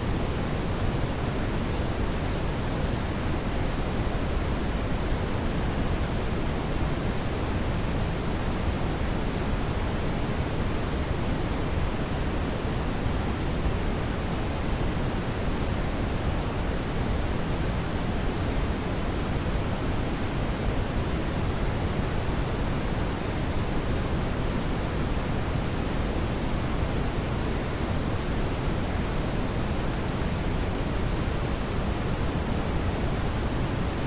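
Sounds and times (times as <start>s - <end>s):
low hissing brown noise: 0.0s - 34.0s.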